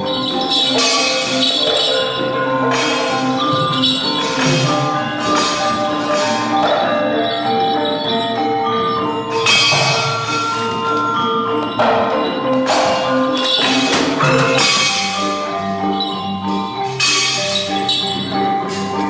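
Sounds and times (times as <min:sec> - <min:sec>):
sharp metallic crashes: 0:00.0 - 0:08.2, 0:09.3 - 0:10.6, 0:11.7 - 0:19.0
gamelan metallophones and gongs: 0:00.0 - 0:19.0.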